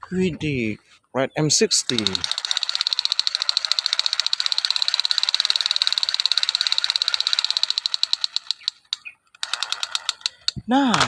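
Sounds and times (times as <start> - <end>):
toy rifle rattling clicks: 1.8 - 11.0.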